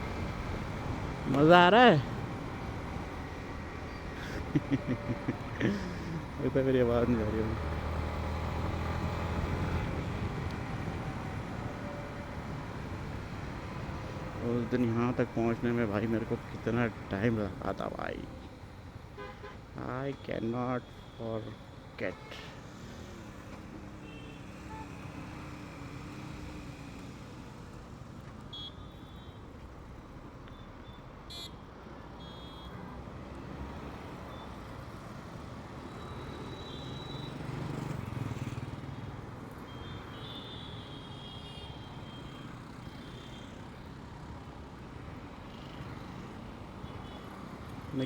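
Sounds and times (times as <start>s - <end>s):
road and wind noise: 0.0s - 48.0s.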